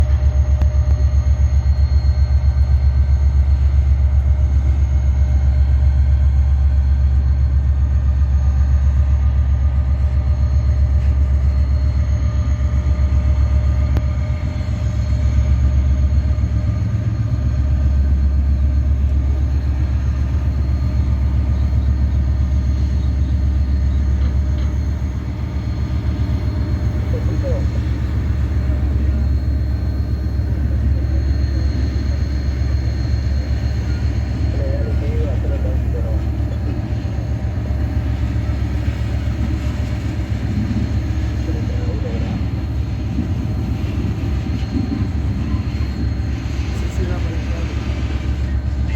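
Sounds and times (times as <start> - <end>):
diesel locomotive rumbling: 0.0 - 48.9.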